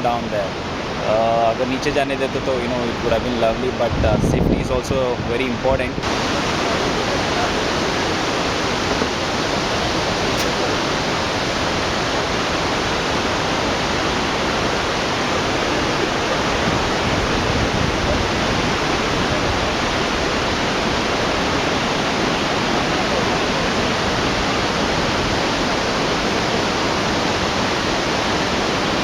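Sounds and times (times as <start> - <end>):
waterfall rushing: 0.0 - 4.0, 4.7 - 29.0.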